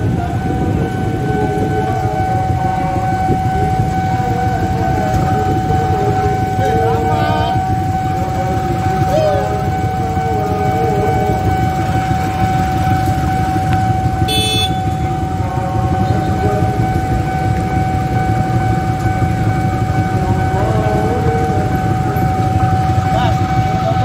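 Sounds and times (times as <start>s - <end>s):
level crossing alarm tone: 0.0s - 24.0s
low rumble of train engines: 0.0s - 24.0s.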